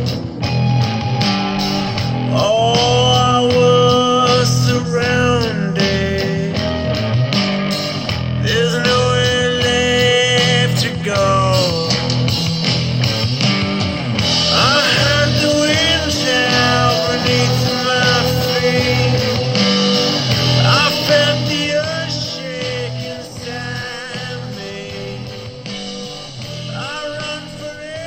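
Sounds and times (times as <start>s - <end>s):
song through a speaker: 0.0s - 28.0s.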